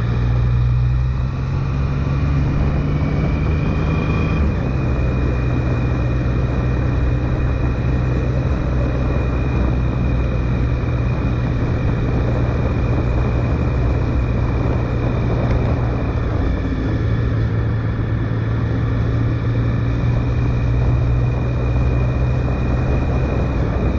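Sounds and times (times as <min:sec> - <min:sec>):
motorcycle engine running: 0:00.0 - 0:23.9
wind and road noise: 0:00.0 - 0:23.9.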